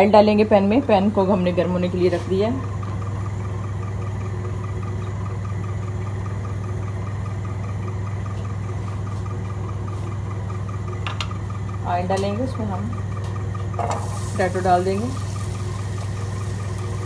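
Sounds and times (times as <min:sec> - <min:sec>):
low motor hum with pulsing: 0:00.0 - 0:17.0.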